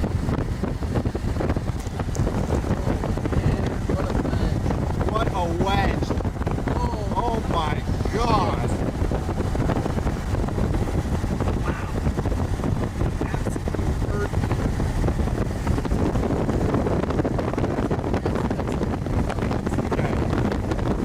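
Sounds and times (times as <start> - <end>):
vehicle rumble: 0.0 - 21.0
wind buffeting microphone: 0.0 - 21.0.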